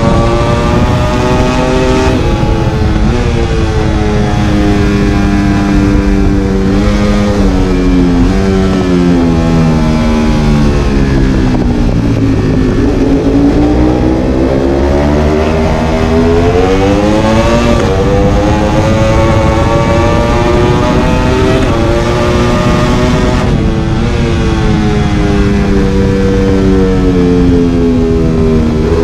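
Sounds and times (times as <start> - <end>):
motorcycle engine at speed: 0.0 - 29.0.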